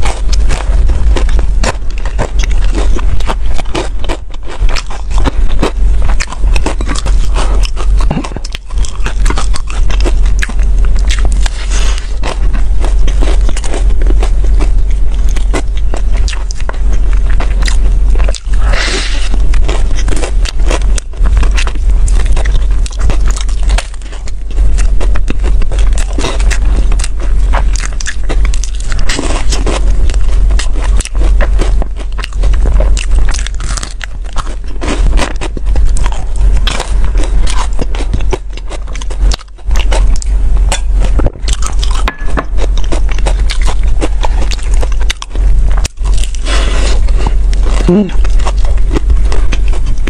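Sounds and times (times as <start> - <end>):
biting and chewing pastry: 0.0 - 50.0
low steady hum: 0.0 - 50.0.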